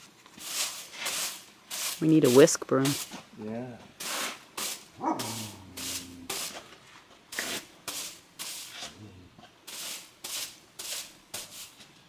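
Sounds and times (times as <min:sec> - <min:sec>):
whisk broom brushing wood: 0:00.0 - 0:03.2, 0:04.0 - 0:06.7, 0:07.3 - 0:09.0, 0:09.6 - 0:11.9.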